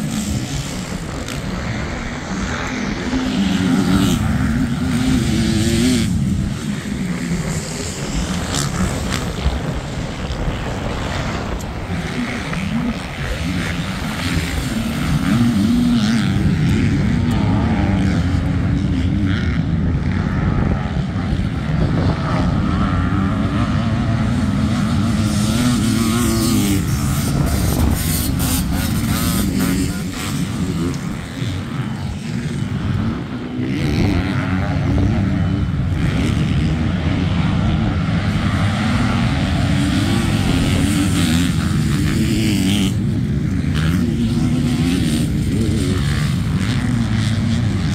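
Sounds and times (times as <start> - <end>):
motocross bikes revving: 0.0 - 47.9.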